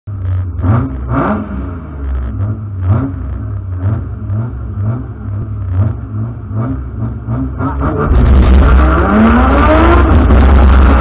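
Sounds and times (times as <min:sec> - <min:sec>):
rally car engine revving: 0:00.1 - 0:11.0.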